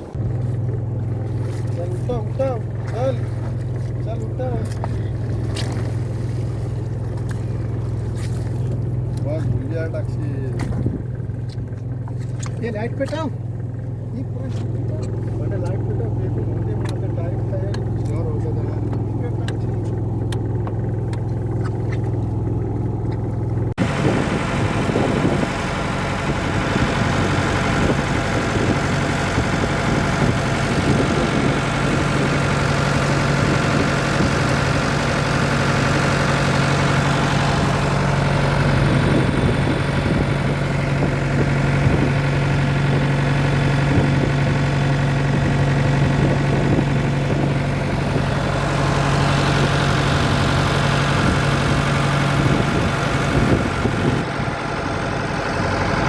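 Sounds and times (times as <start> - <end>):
boat engine running steadily: 0.0 - 56.0.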